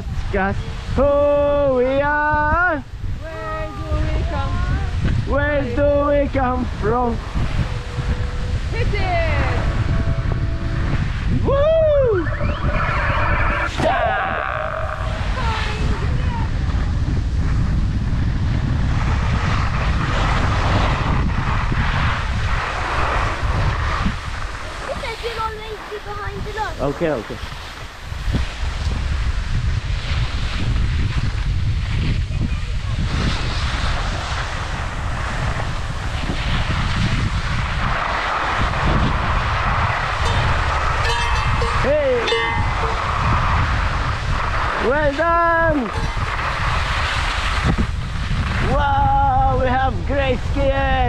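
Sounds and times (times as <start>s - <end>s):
wind buffeting microphone: 0.0s - 51.0s
skis scraping over snow: 3.2s - 11.3s, 15.1s - 48.7s.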